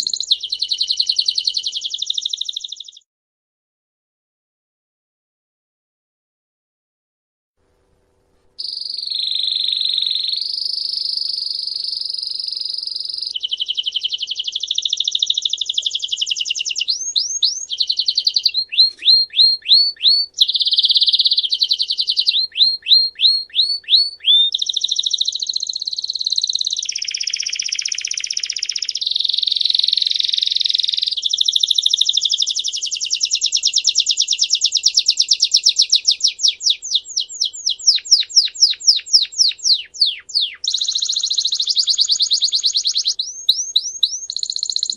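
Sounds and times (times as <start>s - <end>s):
songbird singing trills: 0.0s - 3.0s, 8.6s - 44.9s.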